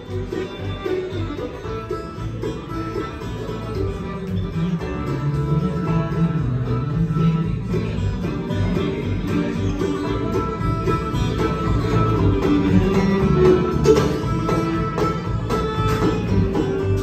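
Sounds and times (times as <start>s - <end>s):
acoustic guitar: 0.0s - 17.0s
banjo picking: 0.0s - 17.0s
bluegrass band playing: 0.0s - 17.0s.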